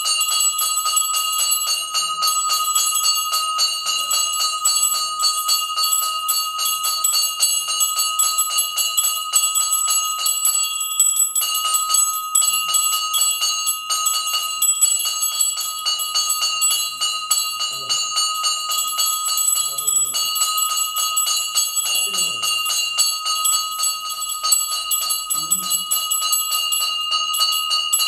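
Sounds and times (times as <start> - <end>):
bell rung rapidly: 0.0 - 28.0.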